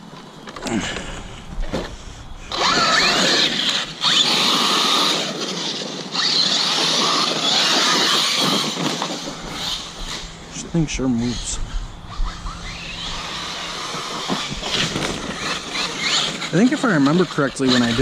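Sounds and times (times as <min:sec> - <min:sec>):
rc truck motor whine: 0:00.4 - 0:18.0.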